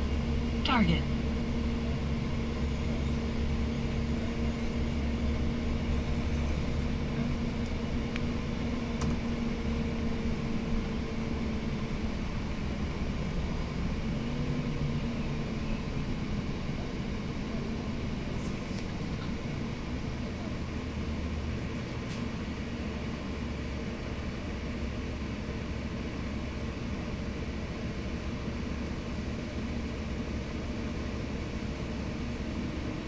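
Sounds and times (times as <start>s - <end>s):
bus diesel engine drone: 0.0s - 33.0s
road noise: 0.0s - 33.0s.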